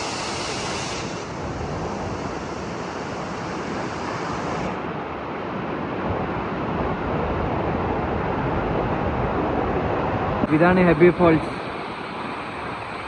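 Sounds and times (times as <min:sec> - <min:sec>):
wind on microphone: 0:00.0 - 0:10.8.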